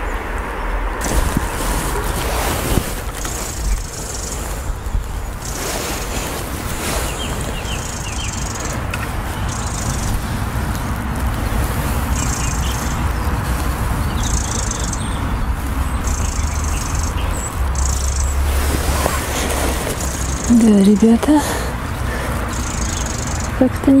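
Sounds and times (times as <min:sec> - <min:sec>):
songbird singing: 0:00.0 - 0:24.0
wind buffeting microphone: 0:00.0 - 0:24.0.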